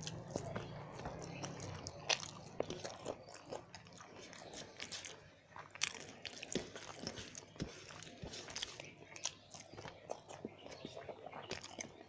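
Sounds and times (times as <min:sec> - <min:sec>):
person chewing and biting food: 0:00.0 - 0:12.0.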